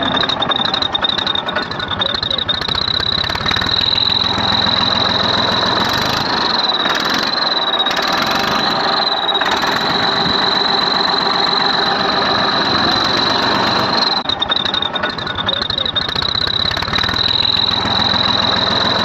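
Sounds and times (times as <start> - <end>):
diesel tractor engine running: 0.0 - 19.0
high-pitched whistle: 0.0 - 19.0.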